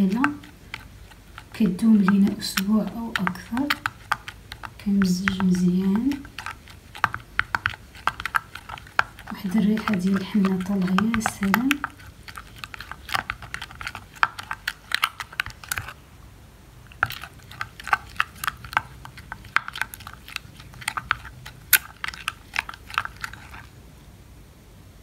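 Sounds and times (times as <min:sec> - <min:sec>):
spatula stirring thick paste: 0:00.0 - 0:16.0, 0:16.8 - 0:23.8.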